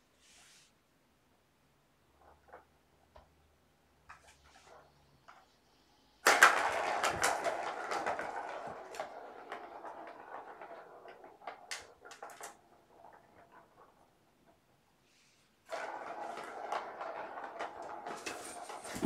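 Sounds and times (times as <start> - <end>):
ball rolling in plastic track: 2.0 - 19.0.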